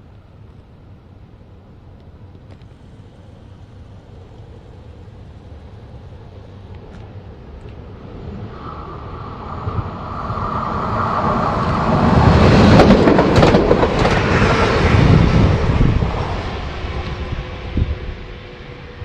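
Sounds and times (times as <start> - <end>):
high steady whine: 0.0 - 19.0
train passing: 0.0 - 19.0.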